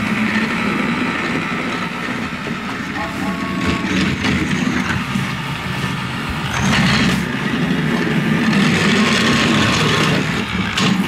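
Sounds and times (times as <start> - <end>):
toy train motor and wheels running: 0.0 - 11.0.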